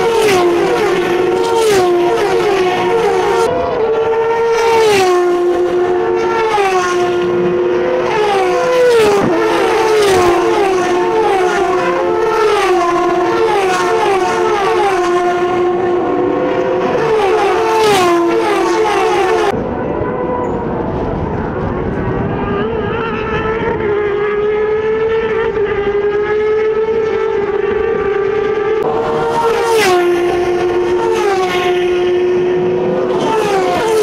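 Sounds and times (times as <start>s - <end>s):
race car engines accelerating: 0.0s - 34.0s.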